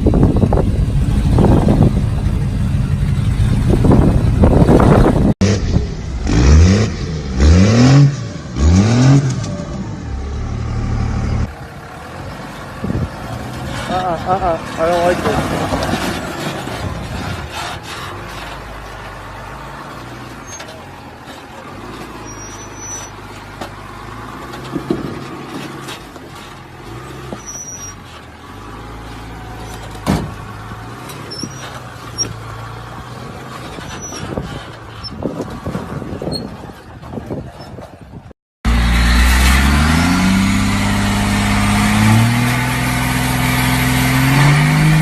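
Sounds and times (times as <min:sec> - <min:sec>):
diesel truck engine running: 0:00.0 - 0:45.0.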